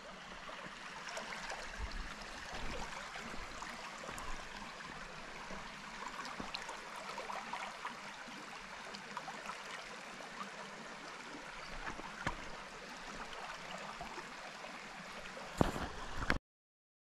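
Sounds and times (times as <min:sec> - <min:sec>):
creek water rushing: 0:00.0 - 0:16.3.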